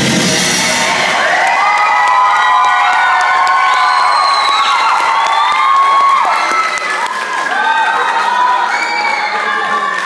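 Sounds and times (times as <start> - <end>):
audience cheering: 0.5 - 10.0.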